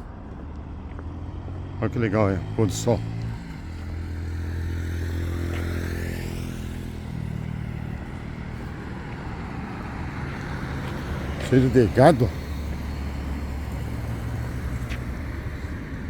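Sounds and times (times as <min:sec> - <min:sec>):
vehicle engine running: 0:00.1 - 0:16.0.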